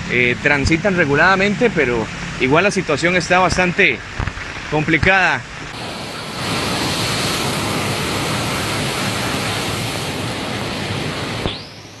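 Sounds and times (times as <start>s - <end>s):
torrential rain and wind: 0.0s - 12.0s.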